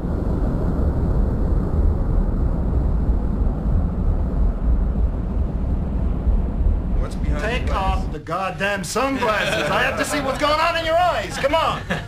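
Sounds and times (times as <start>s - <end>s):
deep submarine rumble: 0.0s - 12.0s.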